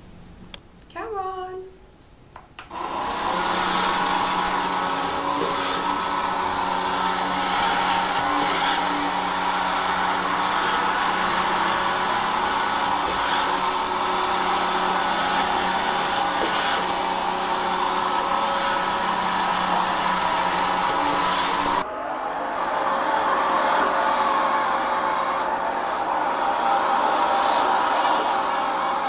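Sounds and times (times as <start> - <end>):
robot vacuum cleaner running: 2.7 - 29.0.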